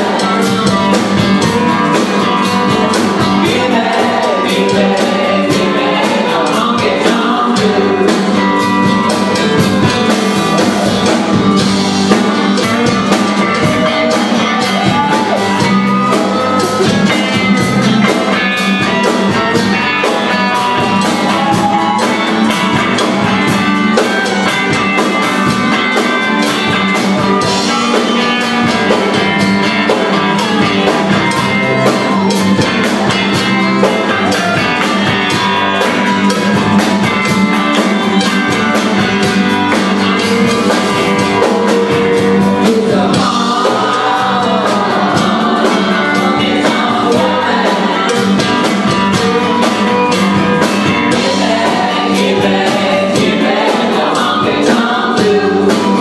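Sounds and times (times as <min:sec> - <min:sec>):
drum kit beat: 0:00.0 - 0:56.0
electric guitars: 0:00.0 - 0:56.0
live rock and roll band: 0:00.0 - 0:56.0
voices singing together: 0:00.0 - 0:56.0.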